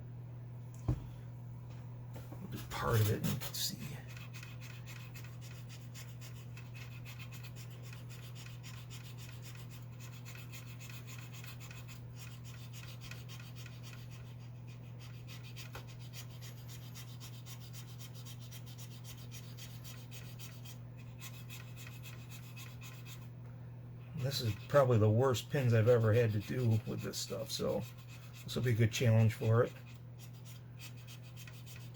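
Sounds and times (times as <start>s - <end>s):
steady low hum: 0.0s - 31.9s
cotton swab rubbing metal: 2.8s - 23.2s, 24.2s - 31.9s.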